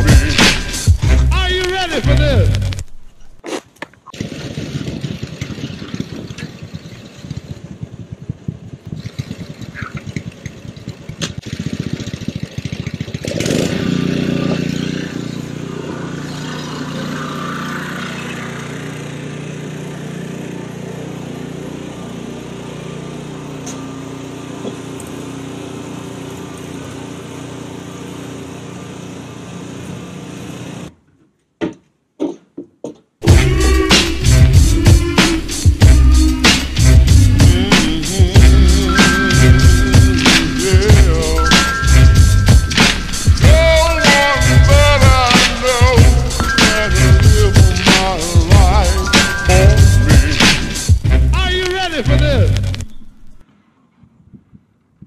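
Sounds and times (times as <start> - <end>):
snowblower engine running: 4.1 - 31.0, 33.2 - 53.4.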